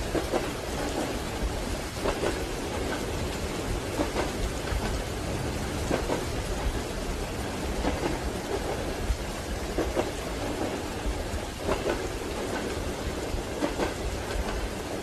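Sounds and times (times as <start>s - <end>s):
train wheels knocking on rail joints: 0.0s - 6.9s, 7.6s - 9.0s, 9.6s - 15.0s
steady rain: 0.0s - 15.0s.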